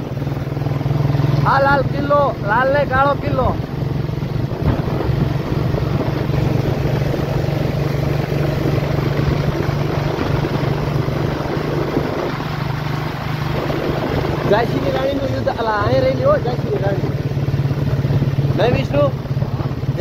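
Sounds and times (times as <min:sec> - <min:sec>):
road and wind noise: 0:00.0 - 0:20.0
vehicle engine drone: 0:00.0 - 0:20.0.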